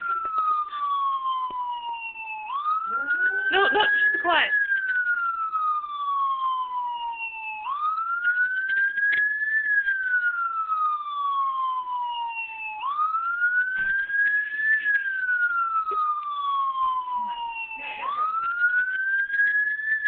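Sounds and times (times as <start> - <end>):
wailing siren: 0.0 - 20.0.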